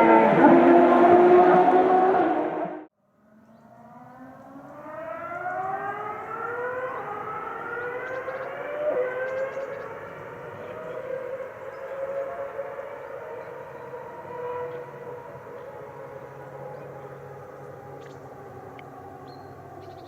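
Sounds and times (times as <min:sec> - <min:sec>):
racing car engine at high revs: 0:00.0 - 0:19.1
distant racing engine accelerating: 0:00.0 - 0:20.0.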